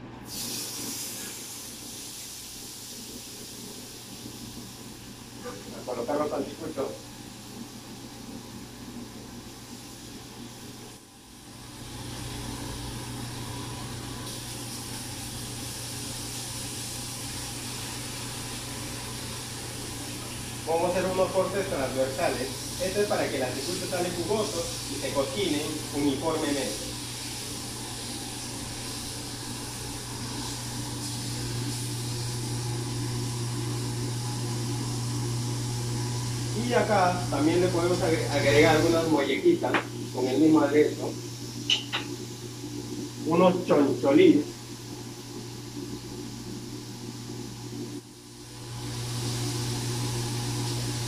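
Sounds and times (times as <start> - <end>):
skewers sizzling on grill: 0.3 - 51.0
extractor hood fan drone: 4.1 - 51.0.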